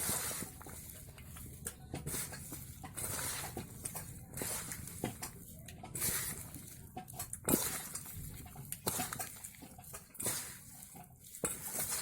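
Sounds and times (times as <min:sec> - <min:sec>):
hands rubbing sliced vegetables: 0:00.0 - 0:12.0.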